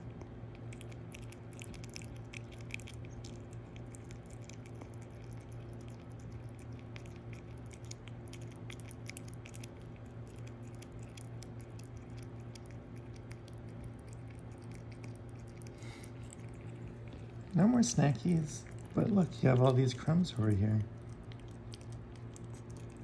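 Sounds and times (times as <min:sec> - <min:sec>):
animal chewing crunchy snack: 0:00.0 - 0:23.0
low hum: 0:00.0 - 0:23.0.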